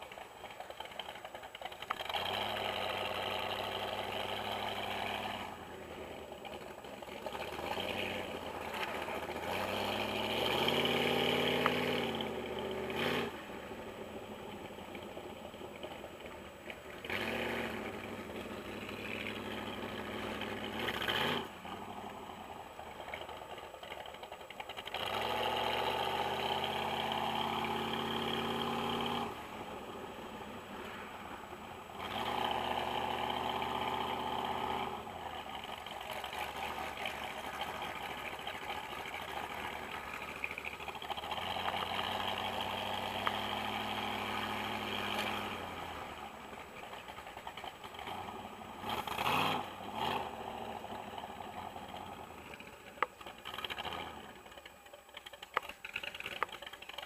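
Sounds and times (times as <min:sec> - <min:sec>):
motorcycle engine revving: 0:00.8 - 0:16.0, 0:16.9 - 0:24.1, 0:24.7 - 0:57.0.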